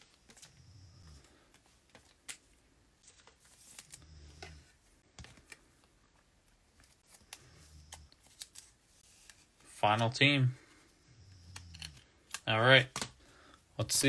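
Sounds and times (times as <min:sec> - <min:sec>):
trading cards rustling and clicking: 0:00.0 - 0:10.1, 0:11.4 - 0:13.2.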